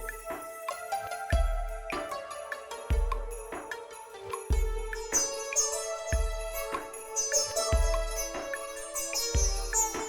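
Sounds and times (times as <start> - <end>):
instrumental music with slow beat: 0.0 - 10.0.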